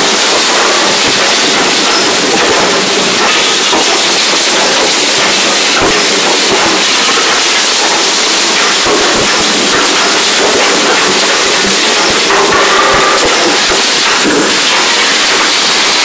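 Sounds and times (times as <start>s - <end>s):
steel bucket chain rattling: 0.0s - 16.0s
water rushing and splashing: 0.0s - 16.0s.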